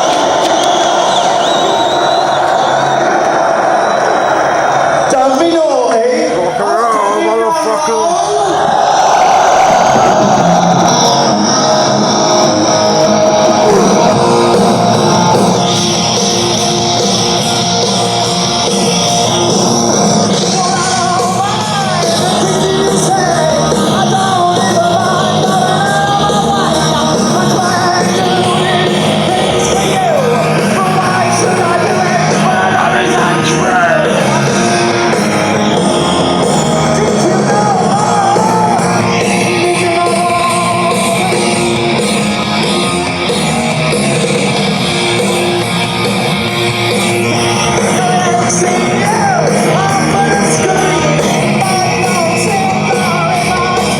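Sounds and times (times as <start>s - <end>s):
rock song with singer: 0.0s - 53.9s.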